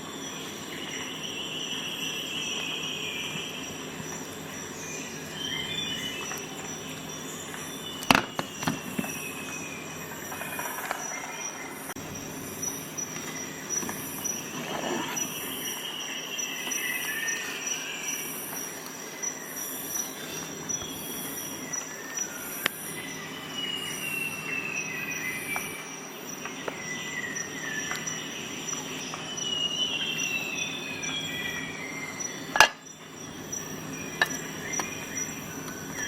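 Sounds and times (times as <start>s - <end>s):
insect-like chirping: 0.0s - 36.0s.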